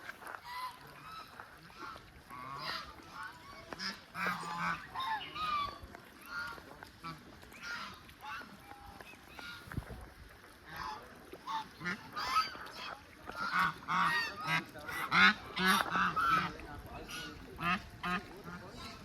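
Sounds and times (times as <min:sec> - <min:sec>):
flock of waterfowl honking: 0:00.0 - 0:19.0.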